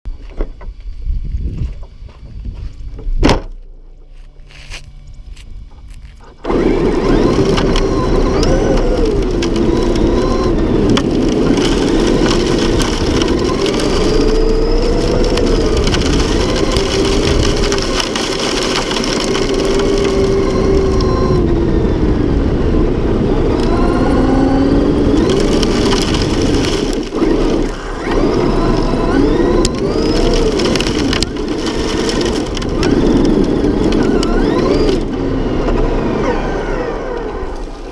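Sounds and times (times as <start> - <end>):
tyres on dirt: 0.1 - 37.9
electric motor whining: 4.0 - 37.9.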